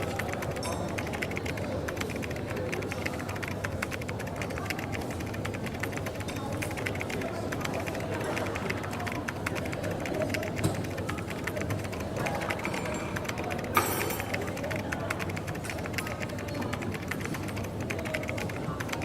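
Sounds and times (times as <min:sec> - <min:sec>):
murmur of voices: 0:00.0 - 0:19.0
rapid patter of clicks: 0:00.0 - 0:19.0.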